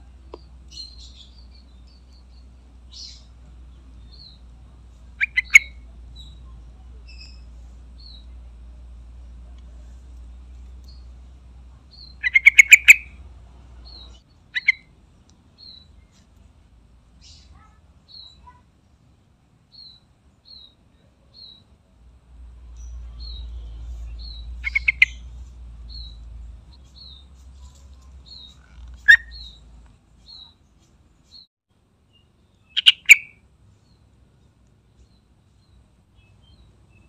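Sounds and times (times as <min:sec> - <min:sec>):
bird chirping: 0:00.0 - 0:08.6, 0:09.2 - 0:16.4, 0:17.1 - 0:18.6, 0:19.7 - 0:21.8, 0:22.4 - 0:31.5, 0:32.1 - 0:37.0.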